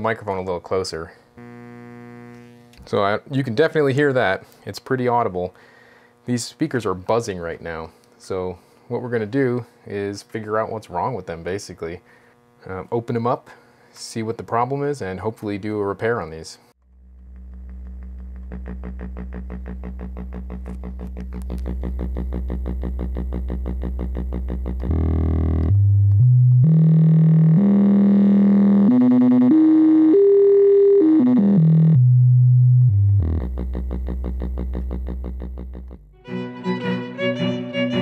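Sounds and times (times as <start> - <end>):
speaker hum with buzz: 0.0 - 36.2.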